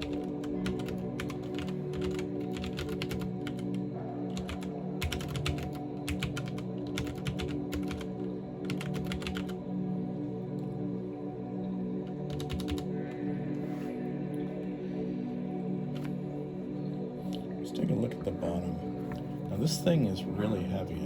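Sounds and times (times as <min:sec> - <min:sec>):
soft background music: 0:00.0 - 0:21.0.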